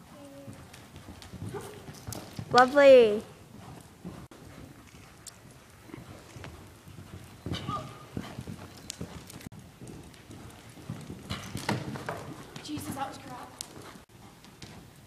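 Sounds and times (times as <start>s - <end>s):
horse hoofbeats on sand: 0.0s - 15.0s.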